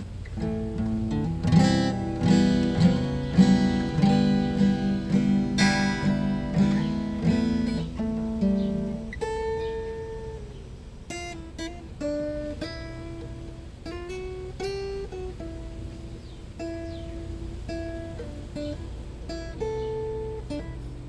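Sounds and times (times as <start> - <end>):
acoustic guitar: 0.0 - 21.0.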